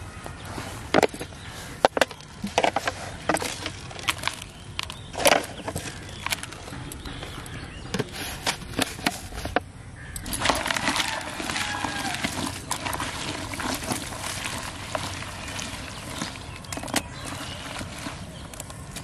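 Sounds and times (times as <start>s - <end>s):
rice rustling while stirred: 0.1s - 9.6s, 10.2s - 19.0s
rice grains clicking on plastic: 0.9s - 19.0s.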